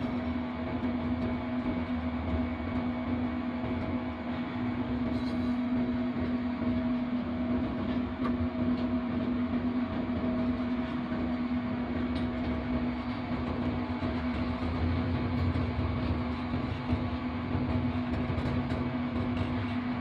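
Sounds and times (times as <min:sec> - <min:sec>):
diesel locomotive engine drone: 0:00.0 - 0:20.0
wheels rumbling on track: 0:00.0 - 0:20.0.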